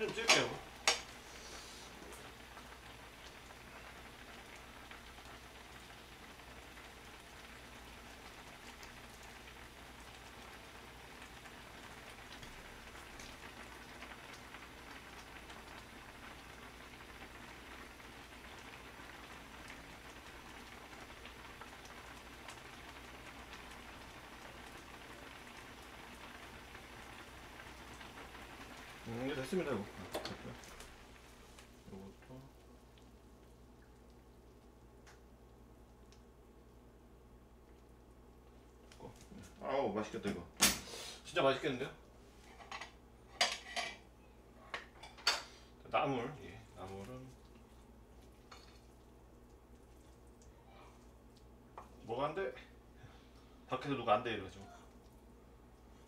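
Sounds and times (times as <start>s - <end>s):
pot simmering with bubbling crackle: 0.0s - 56.0s.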